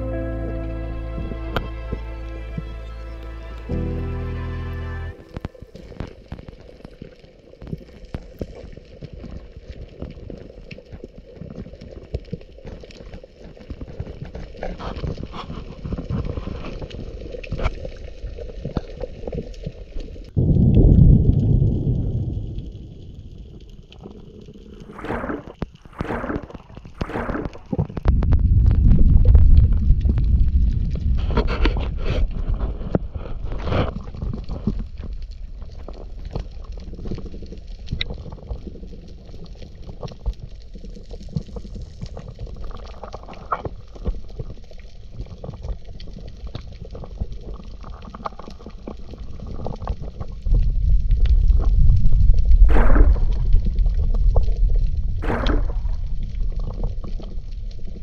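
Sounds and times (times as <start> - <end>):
muffled underwater water rumble: 0.0 - 58.0.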